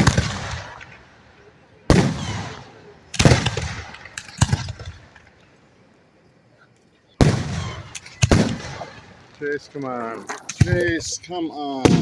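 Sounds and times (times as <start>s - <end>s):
firework shells booming: 0.0s - 5.3s, 7.2s - 12.0s.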